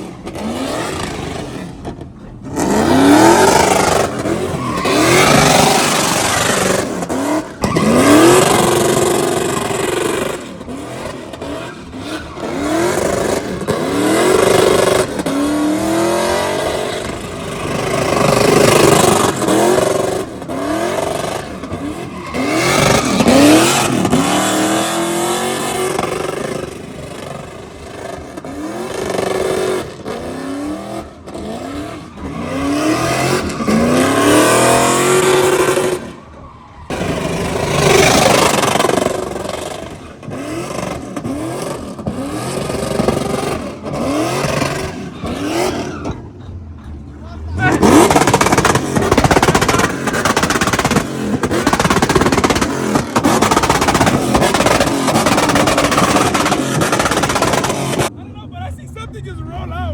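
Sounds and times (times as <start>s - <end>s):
truck engine revving: 0.0s - 59.9s
spinning tires hissing: 0.2s - 58.1s.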